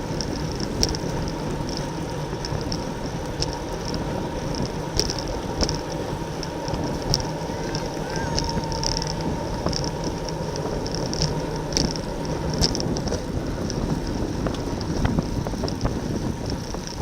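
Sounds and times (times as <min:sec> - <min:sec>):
bicycle road noise: 0:00.0 - 0:17.0
wind rushing over microphone: 0:00.0 - 0:17.0.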